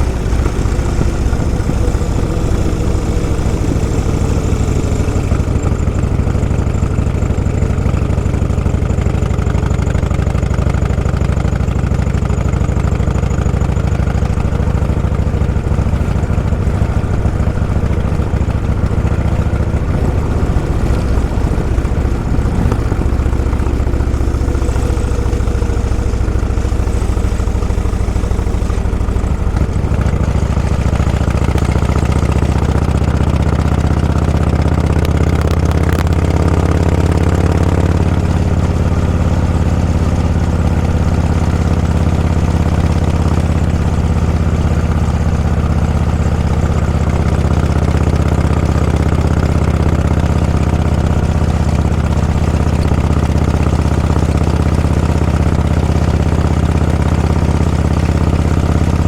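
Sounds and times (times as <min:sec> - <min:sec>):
engine running at low revs: 0:00.0 - 0:59.0
faint higher engine note: 0:00.0 - 0:59.0.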